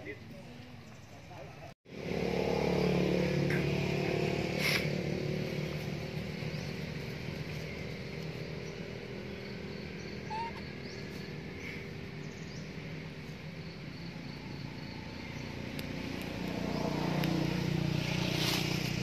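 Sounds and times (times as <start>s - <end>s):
vehicle engine hum: 1.6s - 19.0s.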